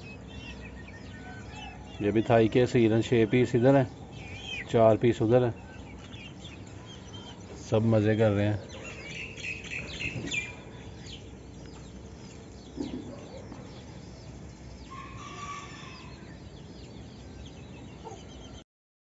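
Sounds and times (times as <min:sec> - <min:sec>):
young chickens clucking and chirping: 0:00.0 - 0:18.6.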